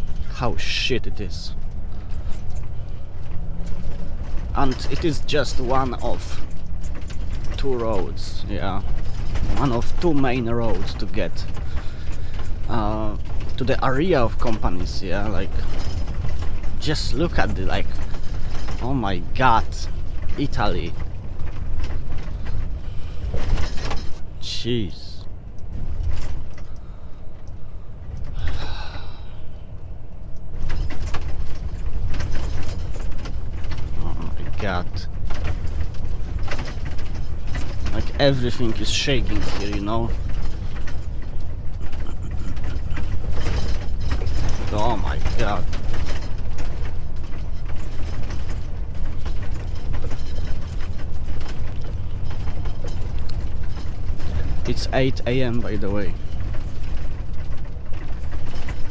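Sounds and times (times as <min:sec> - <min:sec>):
cab interior creaking: 0:00.0 - 0:58.9
rattling clatter: 0:00.0 - 0:58.9
truck cab rumbling and rattling: 0:00.0 - 0:58.9.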